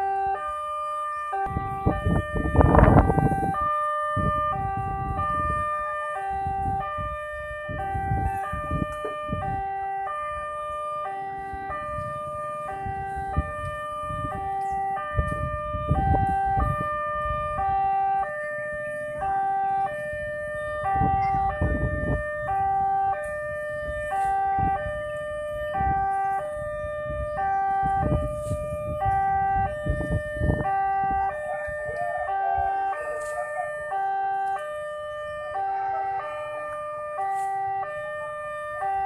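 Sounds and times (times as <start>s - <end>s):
level crossing two-tone alarm: 0.0s - 39.0s.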